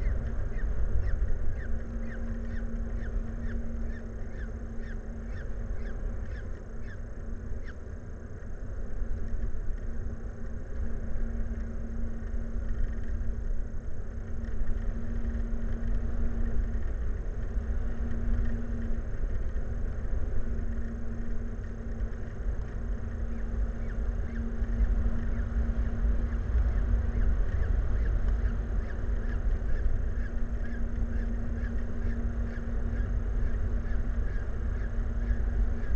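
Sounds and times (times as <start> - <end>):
machinery droning hum: 0.0 - 35.9.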